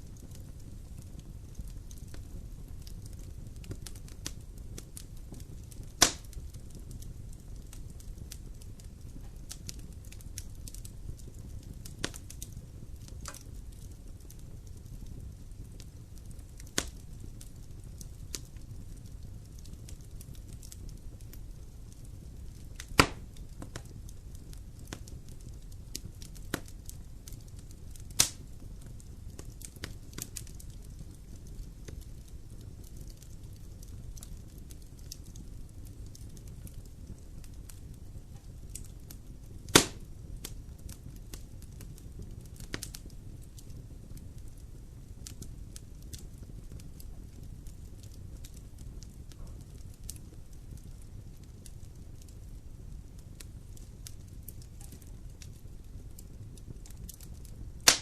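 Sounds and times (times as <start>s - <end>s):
fire crackling: 0.0s - 58.0s
fire rumbling: 0.0s - 58.0s
loud fire pops: 0.0s - 58.0s.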